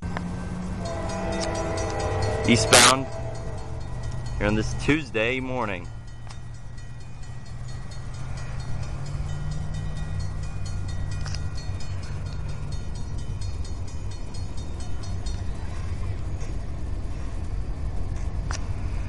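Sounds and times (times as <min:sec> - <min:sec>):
diesel locomotive engine rumble: 0:00.0 - 0:19.0
crossing bell ringing rapidly: 0:00.3 - 0:17.8.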